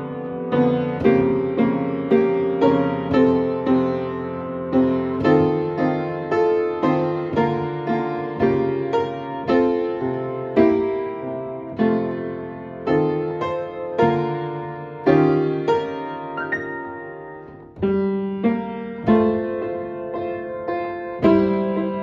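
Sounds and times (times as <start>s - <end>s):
slow gentle piano: 0.0s - 22.0s.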